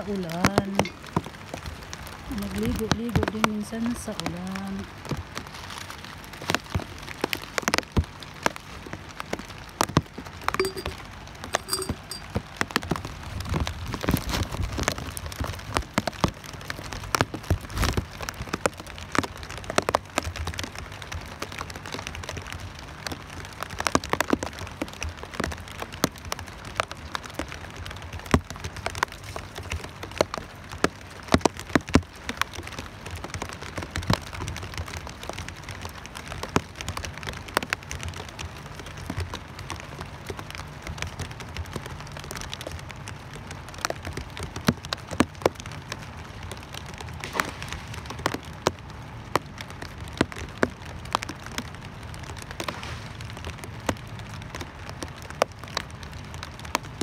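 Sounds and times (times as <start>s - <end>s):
rain falling: 0.0s - 57.0s
raindrop hits: 0.0s - 57.0s.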